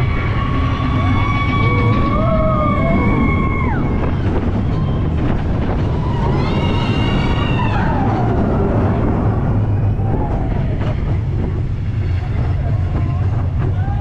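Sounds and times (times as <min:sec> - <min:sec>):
riders whooping: 0:00.0 - 0:11.3
roller coaster rumbling on track: 0:00.0 - 0:14.0
wind buffeting microphone: 0:00.0 - 0:14.0.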